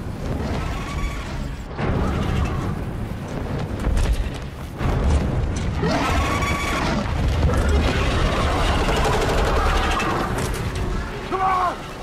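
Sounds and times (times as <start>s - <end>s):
rumbling blast with crackling: 0.0s - 11.2s.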